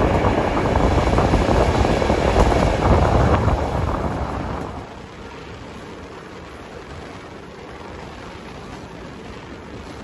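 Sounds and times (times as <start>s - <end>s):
rushing air: 0.0s - 10.0s
train wheels rumbling on rails: 0.0s - 10.0s.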